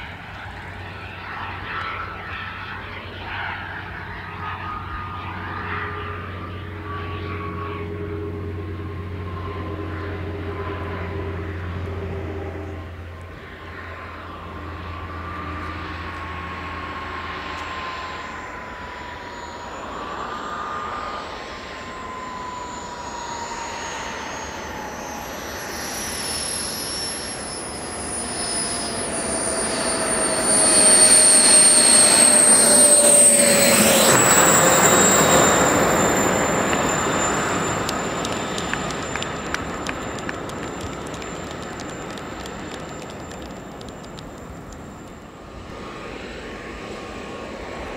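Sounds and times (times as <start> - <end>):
model jet turbines roaring: 0.0 - 47.9.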